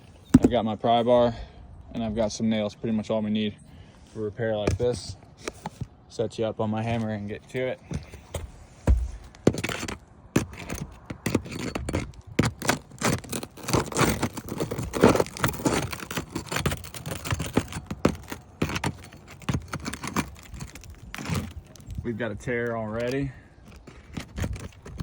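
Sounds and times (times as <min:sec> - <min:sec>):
pry bar scraping roof shingles: 0:04.5 - 0:25.0.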